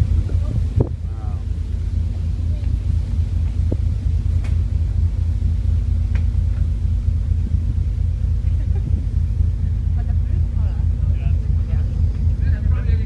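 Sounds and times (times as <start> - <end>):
machinery hum: 0.0 - 13.0
ship low rumble through ice: 0.0 - 13.0.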